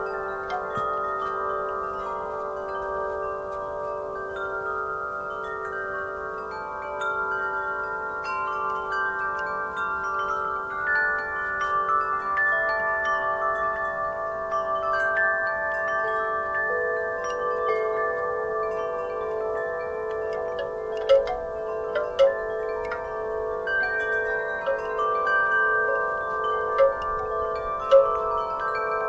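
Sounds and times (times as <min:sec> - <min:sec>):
wind chimes ringing: 0:00.0 - 0:29.0.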